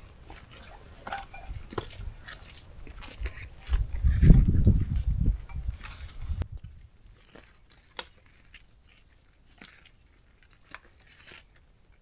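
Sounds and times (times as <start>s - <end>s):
material rustling and crinkling: 0.0s - 12.0s.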